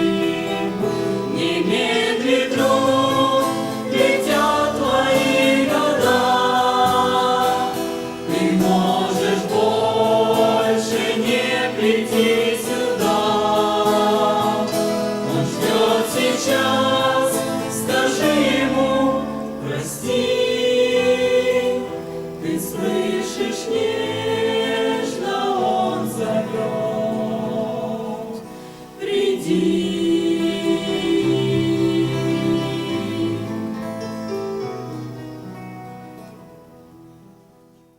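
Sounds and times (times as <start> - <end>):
choir singing: 0.0 - 34.0.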